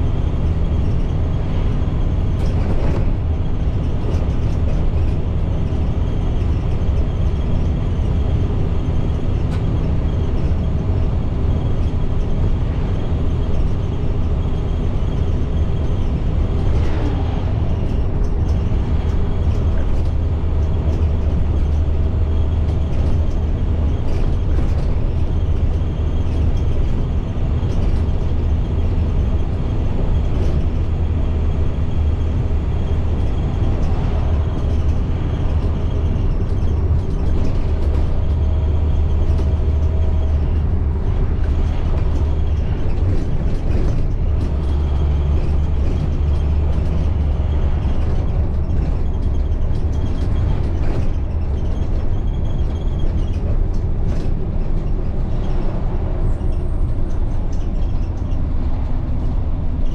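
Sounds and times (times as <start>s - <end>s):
diesel bus engine rumbling: 0.0s - 59.9s
road noise: 0.0s - 59.9s.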